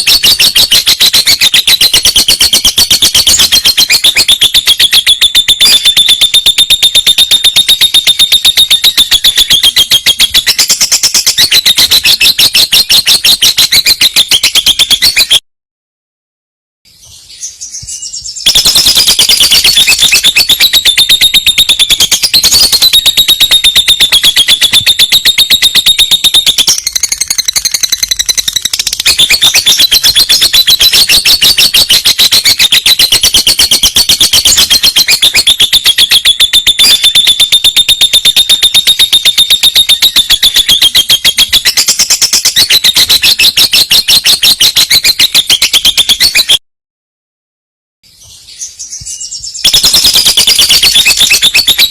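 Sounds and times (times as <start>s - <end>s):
lovebird trilling: 0.0s - 15.4s, 17.8s - 46.6s, 49.2s - 51.9s.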